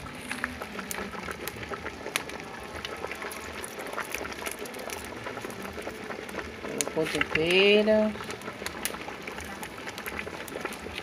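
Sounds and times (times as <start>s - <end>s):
pot boiling hard: 0.0s - 11.0s
wood fire crackling: 0.0s - 11.0s.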